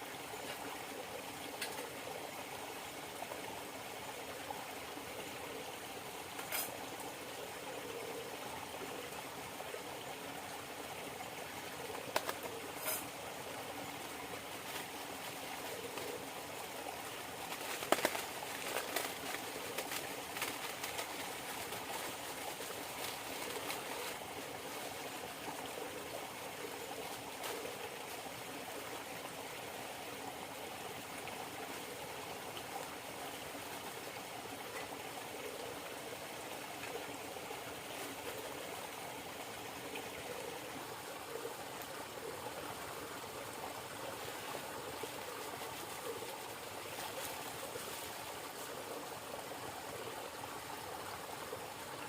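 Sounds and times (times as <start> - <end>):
river water running: 0.0 - 52.0
dove cooing: 0.1 - 52.0.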